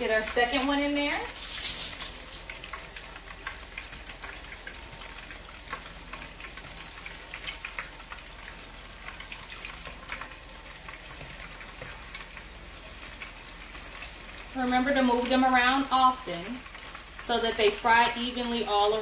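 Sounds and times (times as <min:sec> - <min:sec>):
hot oil sizzling and popping: 0:00.0 - 0:19.0.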